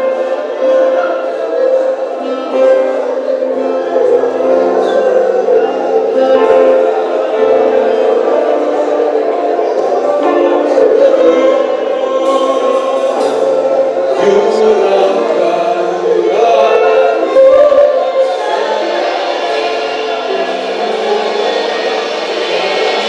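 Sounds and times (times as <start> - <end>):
voices singing slow worship song: 0.0 - 23.0.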